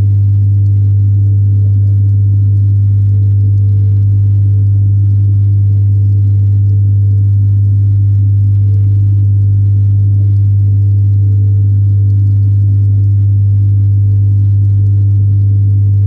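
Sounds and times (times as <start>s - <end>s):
submersible pump humming underwater: 0.0s - 16.0s.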